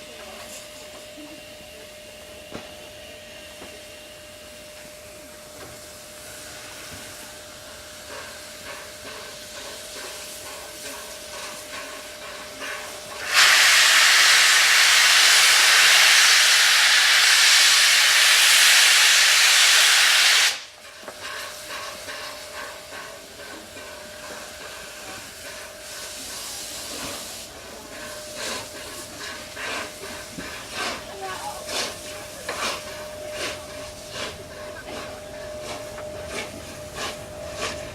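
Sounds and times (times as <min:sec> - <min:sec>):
loud steam hiss: 0:00.0 - 0:37.9.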